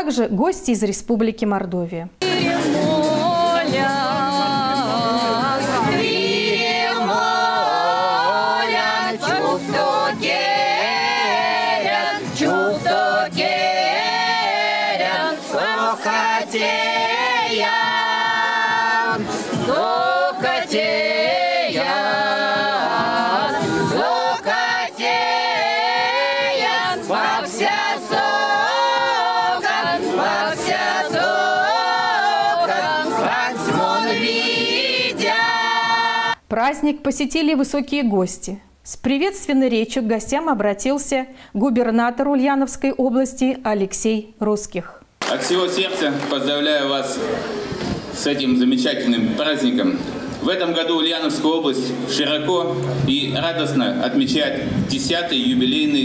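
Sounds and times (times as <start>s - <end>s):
vocal ensemble singing unaccompanied: 2.2s - 36.4s, 45.2s - 56.0s.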